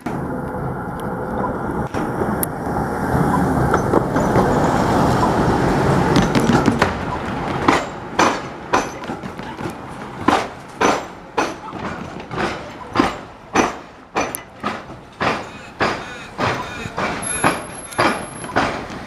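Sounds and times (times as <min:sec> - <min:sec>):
train wheels rolling: 0:00.0 - 0:19.0
wheels clacking on rail gaps: 0:00.0 - 0:19.0.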